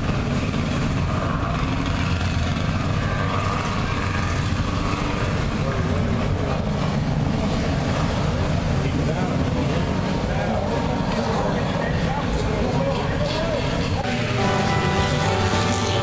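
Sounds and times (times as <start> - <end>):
jet ski engines idling: 0.0 - 16.0.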